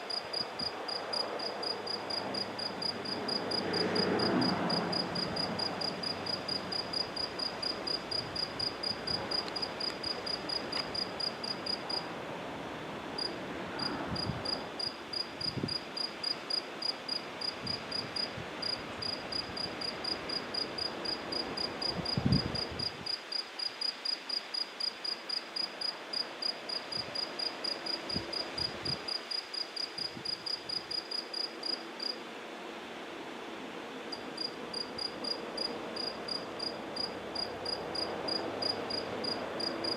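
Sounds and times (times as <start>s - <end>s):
cricket chirping: 0.0s - 12.1s, 13.2s - 32.2s, 34.1s - 39.9s.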